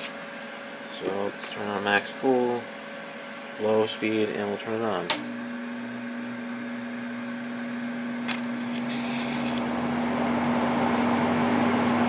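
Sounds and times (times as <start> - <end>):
air conditioner fan humming: 0.0 - 12.0.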